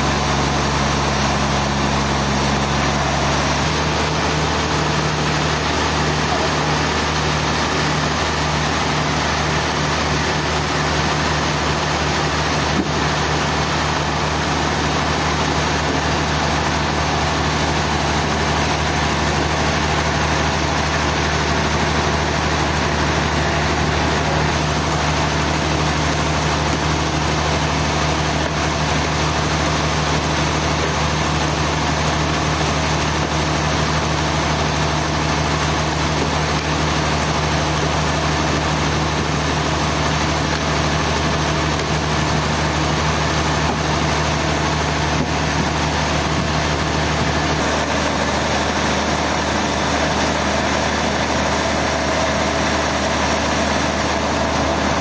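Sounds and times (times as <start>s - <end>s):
machinery engine humming: 0.0s - 55.0s.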